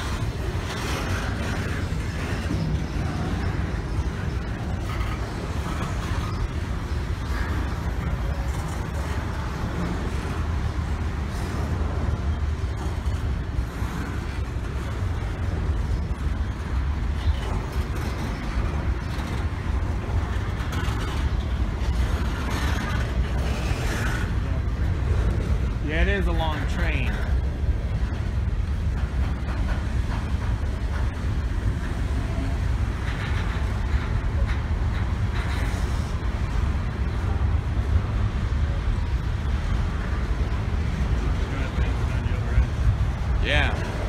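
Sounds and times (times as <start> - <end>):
freight train wheels rumbling on rails: 0.0 - 44.0.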